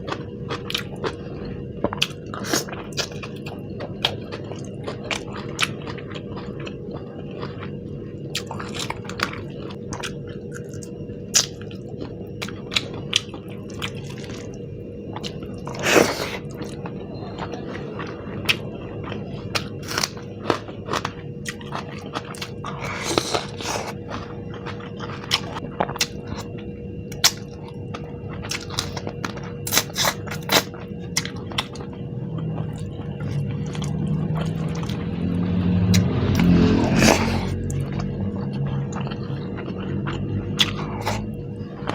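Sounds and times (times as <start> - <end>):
chewing with crunches: 0.0 - 41.9
faint steady hum: 0.0 - 41.9.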